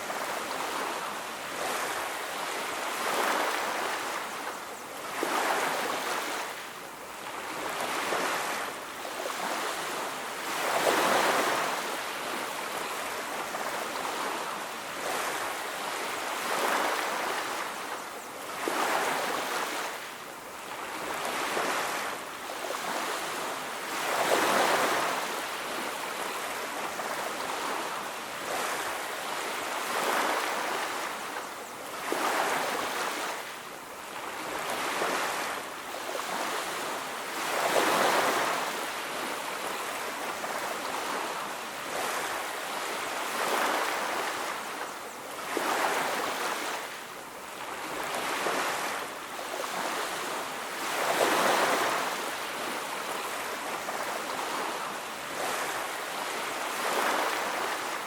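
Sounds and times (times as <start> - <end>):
big waves breaking: 7.2 - 17.9, 18.5 - 58.0.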